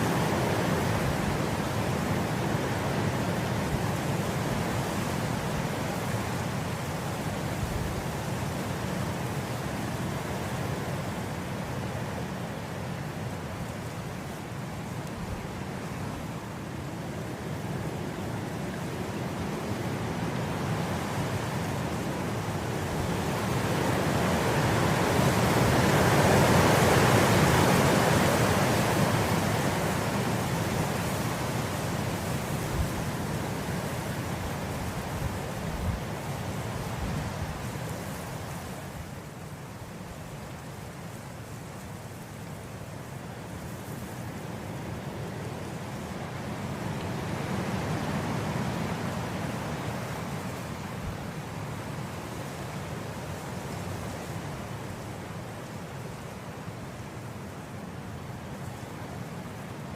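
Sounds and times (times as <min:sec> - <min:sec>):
wind blowing through grass: 0:00.0 - 0:59.9.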